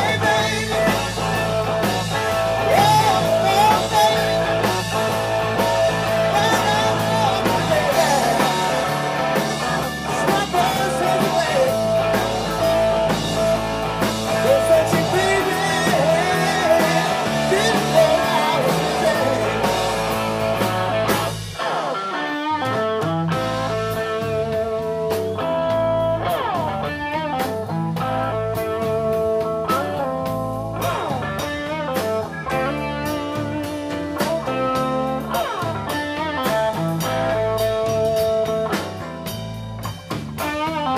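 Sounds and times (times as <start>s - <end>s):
blues band playing: 0.0s - 40.9s.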